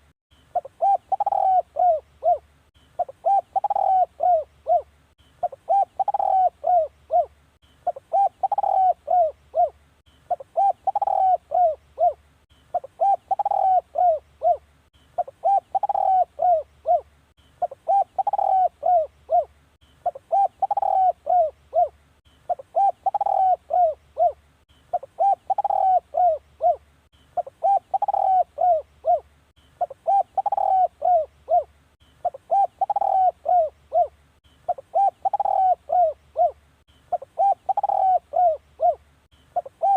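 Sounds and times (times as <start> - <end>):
dove cooing: 0.5 - 39.9.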